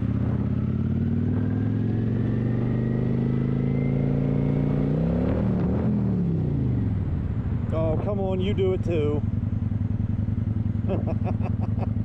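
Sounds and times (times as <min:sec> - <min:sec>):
motorcycle engine running: 0:00.0 - 0:04.8, 0:05.7 - 0:12.0.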